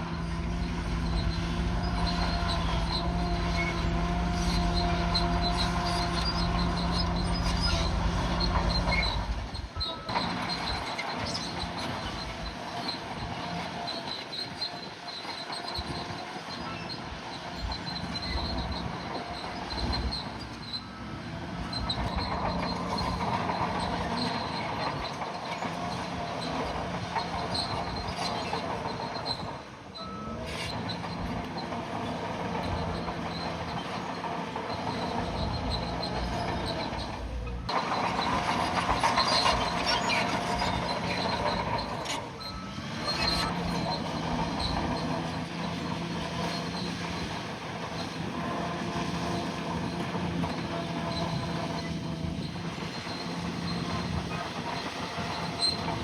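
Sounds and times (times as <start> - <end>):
bulldozer diesel engine running: 0.0 - 56.0
steel tracks clanking and squealing: 0.0 - 56.0.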